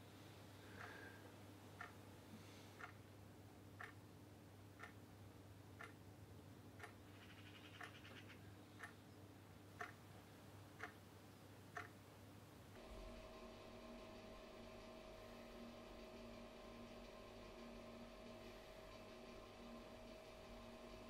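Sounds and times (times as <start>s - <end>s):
low room hum: 0.0s - 21.0s
clock ticking faintly: 0.7s - 2.1s, 2.7s - 21.0s.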